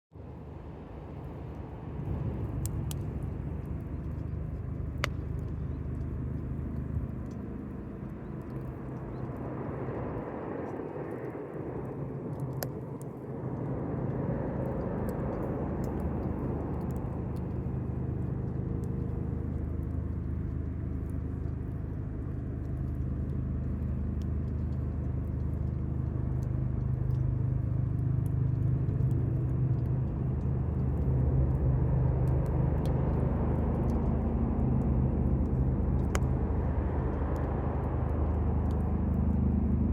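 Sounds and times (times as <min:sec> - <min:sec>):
steady low hum: 0:00.1 - 0:39.9
campfire crackling and popping: 0:01.1 - 0:39.9.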